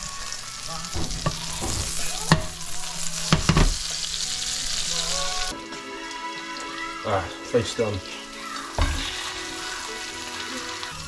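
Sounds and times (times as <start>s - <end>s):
garlic sizzling in a frying pan: 0.0s - 11.0s.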